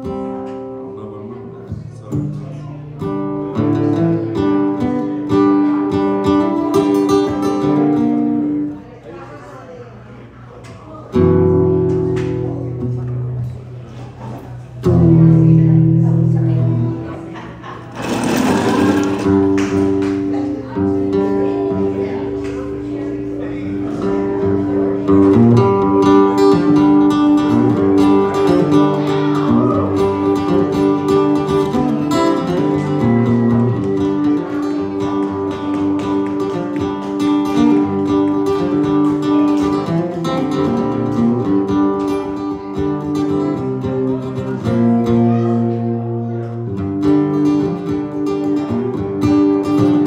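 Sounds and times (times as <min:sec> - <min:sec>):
acoustic guitar strumming: 0:00.0 - 0:08.8, 0:11.1 - 0:50.0.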